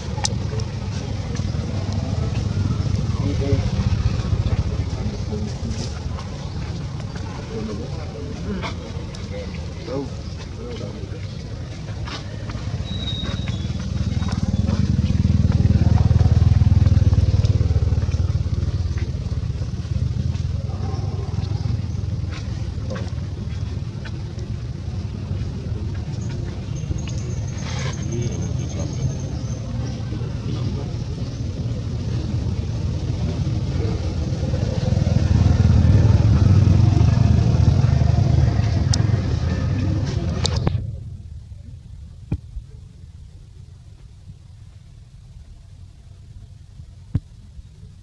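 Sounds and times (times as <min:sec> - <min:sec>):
engine pulsing rumble: 0:00.0 - 0:48.0.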